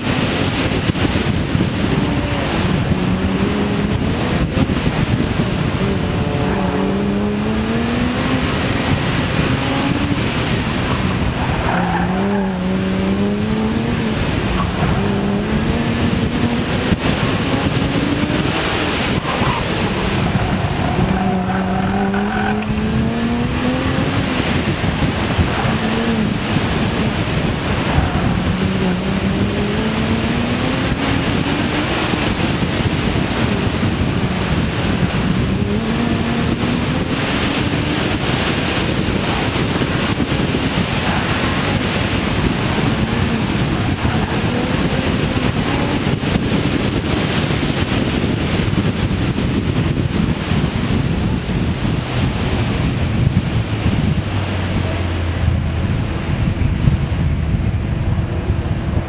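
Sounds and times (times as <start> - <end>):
car engine revving: 0.0 - 59.0
wind and tyre noise: 0.0 - 59.0.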